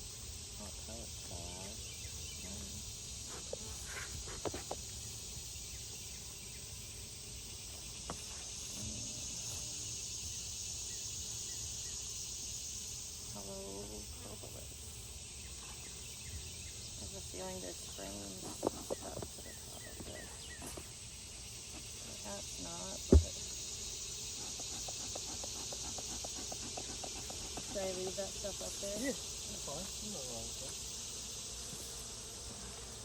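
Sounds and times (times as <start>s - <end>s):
crickets and insects chorus: 0.0s - 33.0s.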